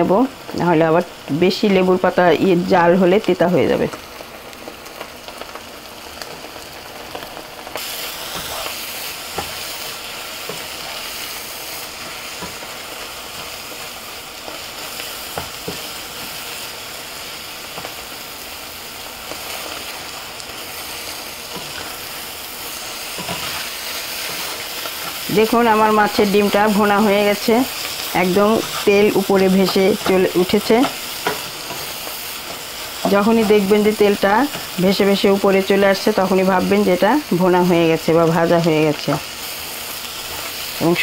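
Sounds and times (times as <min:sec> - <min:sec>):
fish roe sizzling in oil: 0:00.0 - 0:41.0.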